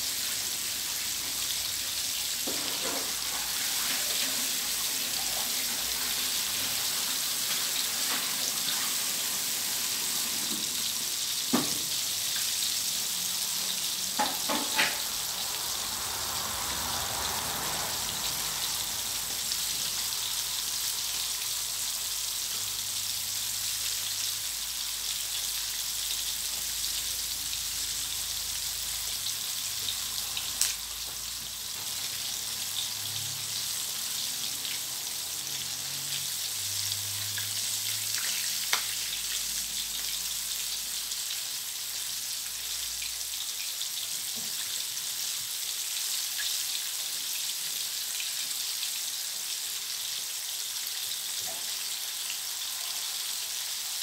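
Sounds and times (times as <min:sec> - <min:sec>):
oil sizzling: 0:00.0 - 0:54.0.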